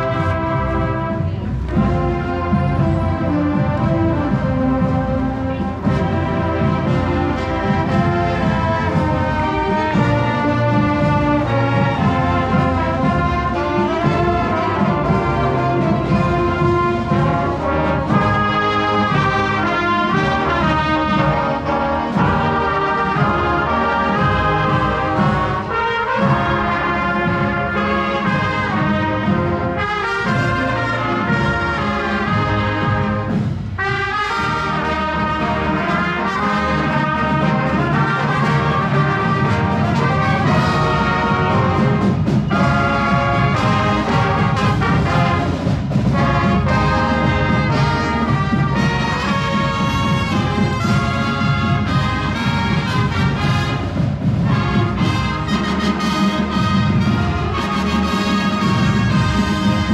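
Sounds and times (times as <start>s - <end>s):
drum strikes: 0.0s - 59.9s
marching band brass tune: 0.0s - 59.9s.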